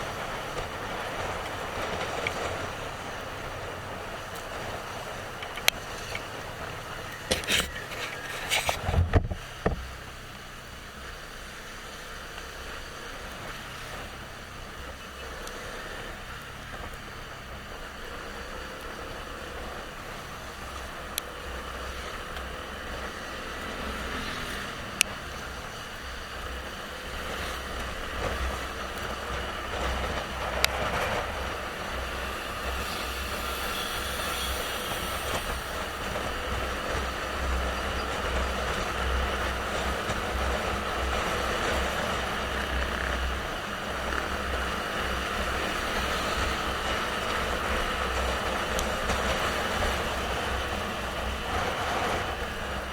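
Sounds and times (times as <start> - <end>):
wind buffeting microphone: 0.0 - 10.3, 13.0 - 52.9
motorcycle engine: 0.0 - 52.9.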